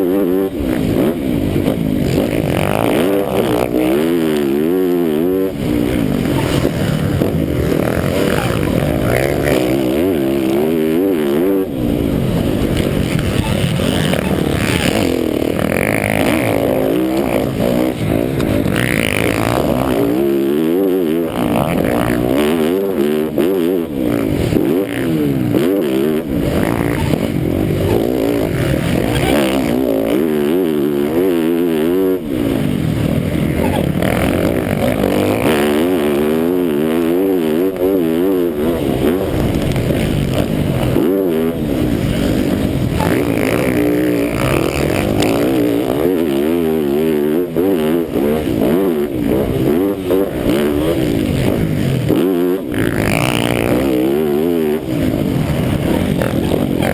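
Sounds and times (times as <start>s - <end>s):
clatter and rushing noise: 0.0s - 56.9s
motocross bike engine revving: 0.0s - 56.9s.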